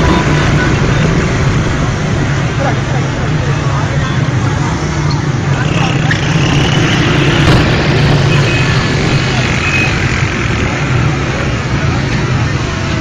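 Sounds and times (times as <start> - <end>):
loud street traffic: 0.0 - 13.0
voices: 0.0 - 13.0.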